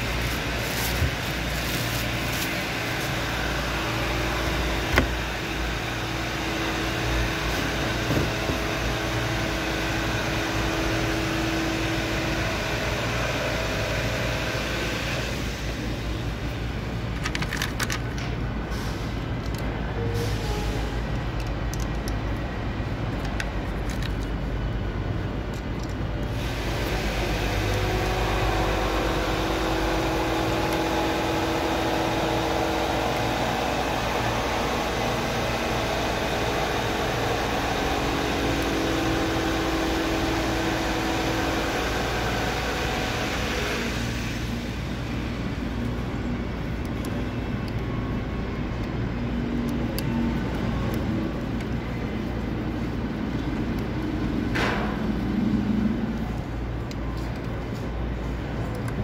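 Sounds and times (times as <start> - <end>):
engine-like drone: 0.0 - 17.4, 18.2 - 59.0.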